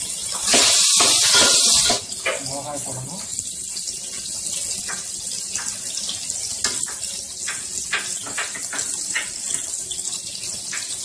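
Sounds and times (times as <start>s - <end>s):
food sizzling in hot ghee: 0.0s - 11.0s
oil popping and crackling: 0.0s - 11.0s.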